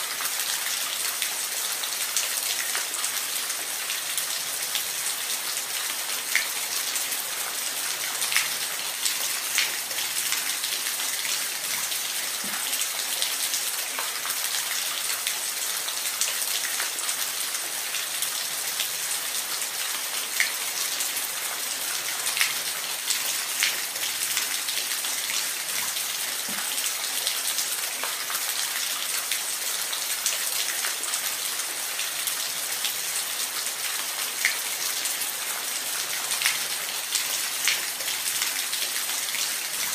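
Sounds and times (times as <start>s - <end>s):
water drips and splashes: 0.0s - 39.9s.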